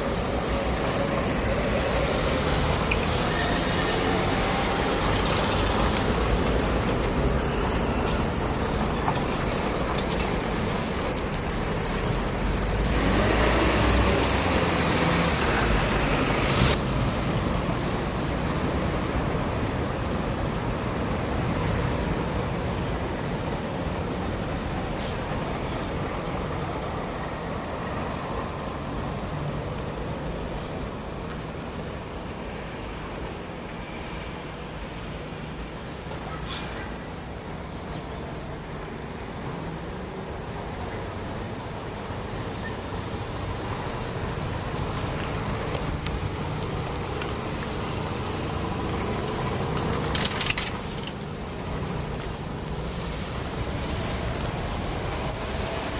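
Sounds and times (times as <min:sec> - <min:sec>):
street traffic passing: 0:00.0 - 0:55.9.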